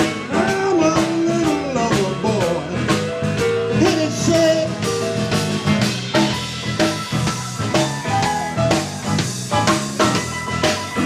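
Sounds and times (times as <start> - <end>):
bass guitar: 0.0 - 11.0
steady drum beat: 0.0 - 11.0.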